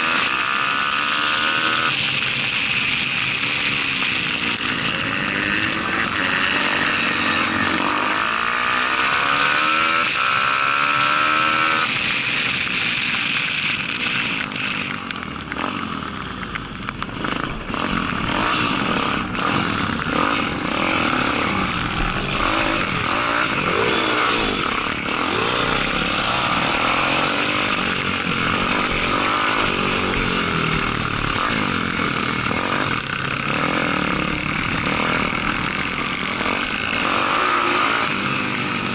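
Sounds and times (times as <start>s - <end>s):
motorbike engine racing: 0.0s - 38.9s.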